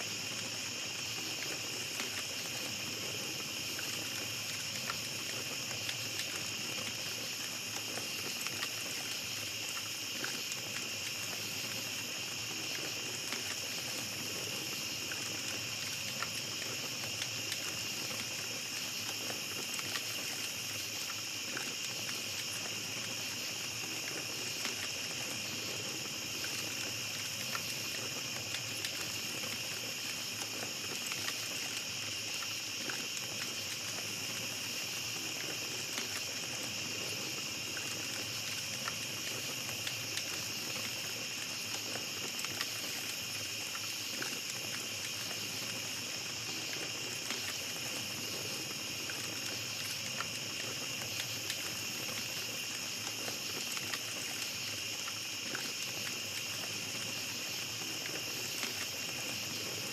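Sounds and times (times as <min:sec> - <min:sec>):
campfire crackling and popping: 0:00.0 - 0:59.9
night insects chorus: 0:00.0 - 0:59.9.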